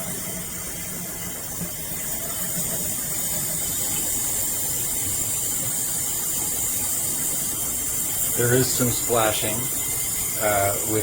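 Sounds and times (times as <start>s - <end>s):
faucet water running into sink: 0.0s - 11.0s.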